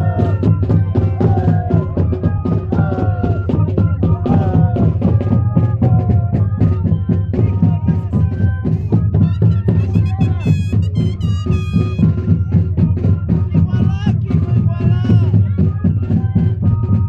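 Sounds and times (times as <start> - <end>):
flutes playing wavering melody: 0.0 - 17.0
steady drum beats: 0.0 - 17.0.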